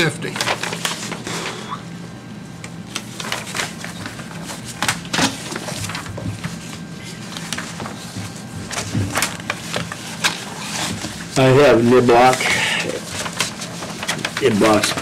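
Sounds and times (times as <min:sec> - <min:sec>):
steady low hum: 0:00.0 - 0:15.0
papers rustling: 0:00.2 - 0:01.6, 0:02.9 - 0:15.0.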